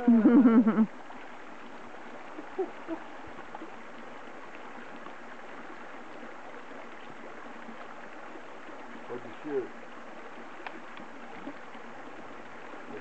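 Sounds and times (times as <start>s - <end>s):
creek running over rocks: 0.0s - 13.0s.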